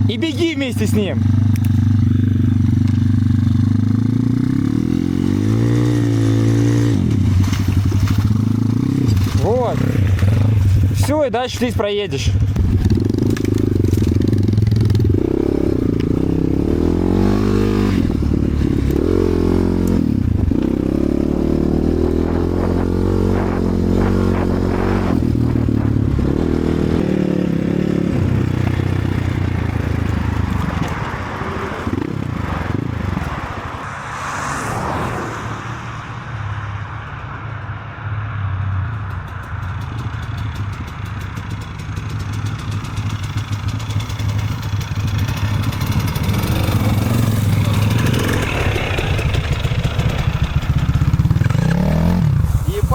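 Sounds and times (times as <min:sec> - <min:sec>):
motorcycle engine revving: 0:00.0 - 0:11.2, 0:12.1 - 0:34.0, 0:38.3 - 0:52.9.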